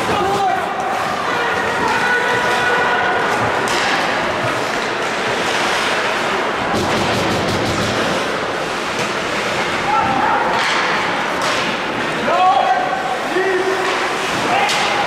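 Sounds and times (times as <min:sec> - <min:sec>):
arena crowd noise: 0:00.0 - 0:15.0
hockey sticks clacking puck: 0:00.0 - 0:15.0
skates scraping ice: 0:00.0 - 0:15.0.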